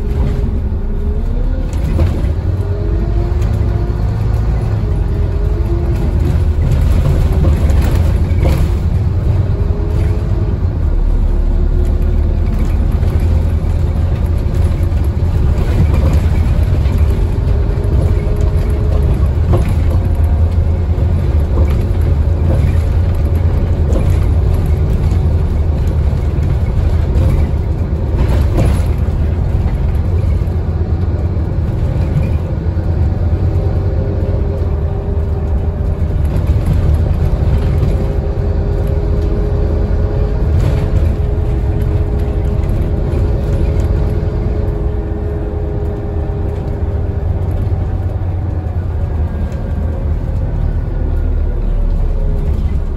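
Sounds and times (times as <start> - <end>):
bus body knocks and rattles: 0.0 - 52.9
bus diesel engine rumbling: 0.0 - 52.9.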